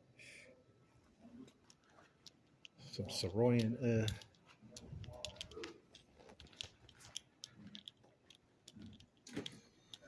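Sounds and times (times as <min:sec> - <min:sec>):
small clicks and taps: 0:01.5 - 0:10.0.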